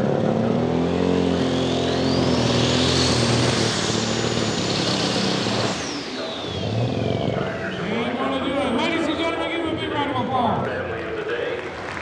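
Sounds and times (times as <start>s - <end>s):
tractor engine at full throttle: 0.0s - 10.6s
turbocharger whine: 0.0s - 10.6s.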